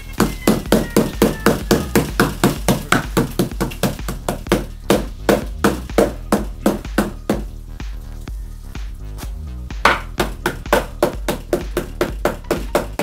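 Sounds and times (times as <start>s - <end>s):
rolling pin beating meat: 0.0s - 7.5s, 9.7s - 13.0s.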